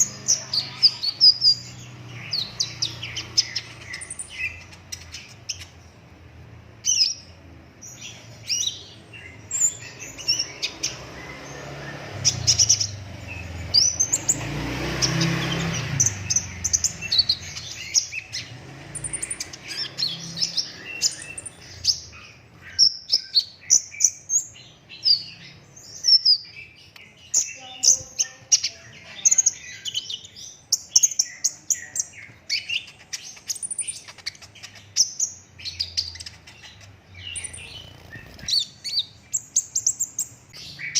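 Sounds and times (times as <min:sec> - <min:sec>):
bird singing high chirps: 0:00.0 - 0:06.1, 0:06.8 - 0:40.9.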